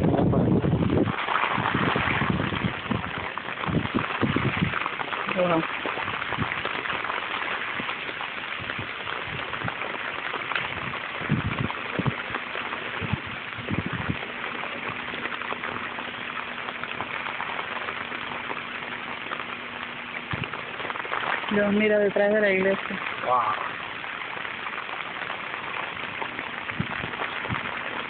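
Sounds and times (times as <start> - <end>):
rain on a flooded street: 0.0 - 28.0.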